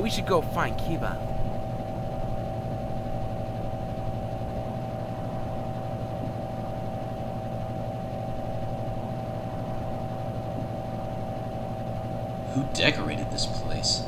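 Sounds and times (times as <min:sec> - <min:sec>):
droning hum with fixed tones: 0:00.0 - 0:14.0.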